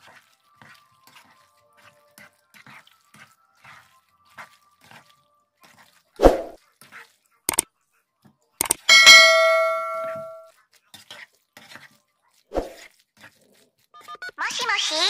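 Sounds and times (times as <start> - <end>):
spatula stirring thick sauce: 0.0 - 9.6, 10.4 - 14.2.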